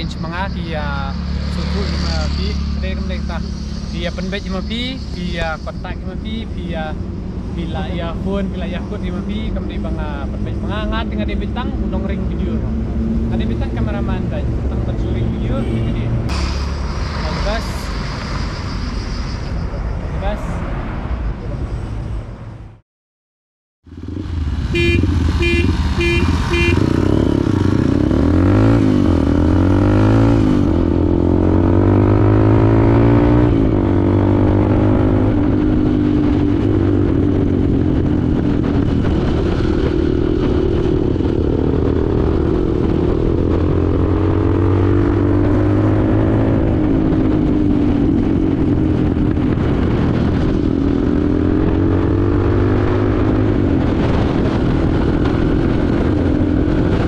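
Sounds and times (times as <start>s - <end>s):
motorcycle engine accelerating: 0.0s - 18.3s, 23.8s - 57.0s
wind rush: 0.0s - 22.2s, 23.9s - 57.0s.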